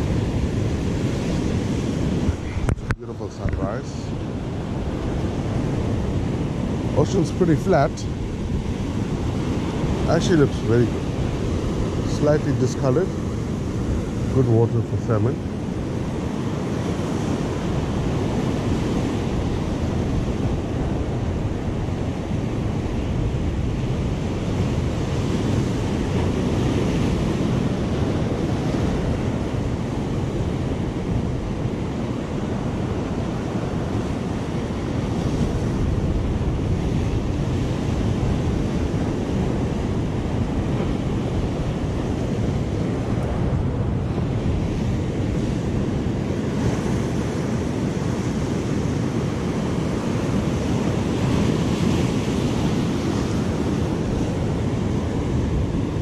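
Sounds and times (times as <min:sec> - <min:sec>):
ocean surf washing over rocks: 0:00.0 - 0:56.0
wind rumbling on microphone: 0:00.0 - 0:56.0.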